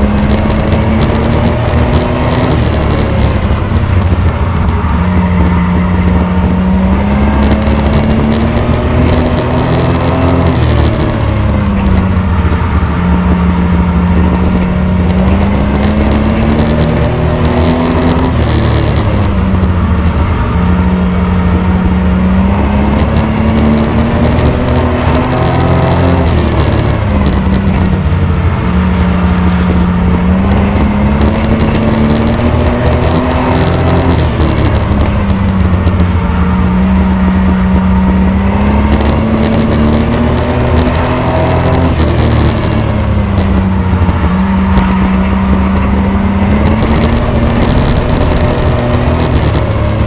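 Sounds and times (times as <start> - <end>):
race truck engine revving: 0.0 - 50.0.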